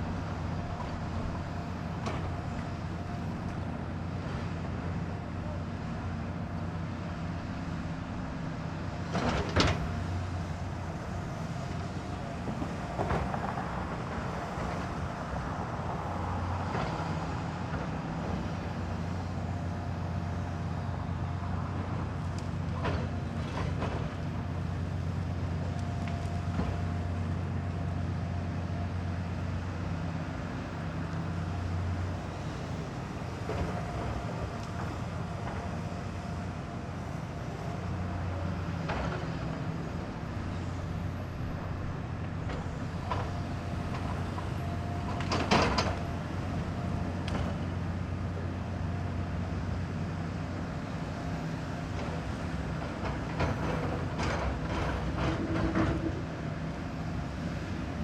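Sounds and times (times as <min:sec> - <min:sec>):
diesel machinery droning: 0:00.0 - 0:58.0.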